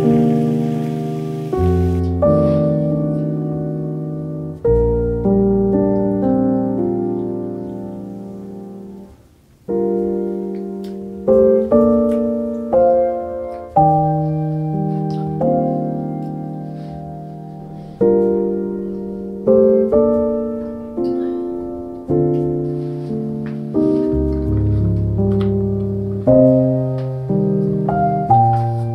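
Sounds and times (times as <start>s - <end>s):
slow piano chords: 0.0s - 28.9s.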